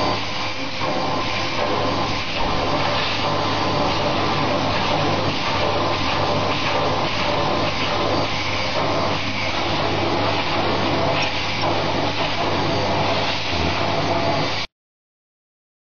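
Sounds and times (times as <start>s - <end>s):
vacuum cleaner running: 0.0s - 14.7s.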